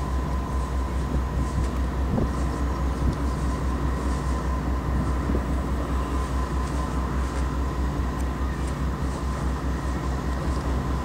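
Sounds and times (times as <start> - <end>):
diesel locomotive engine pulsing: 0.0 - 11.0
locomotive whine: 0.0 - 11.0.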